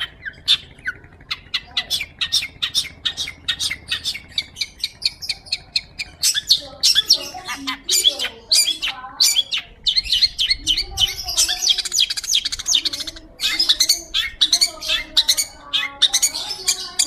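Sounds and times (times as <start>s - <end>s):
bird singing high chirps: 0.0s - 17.0s.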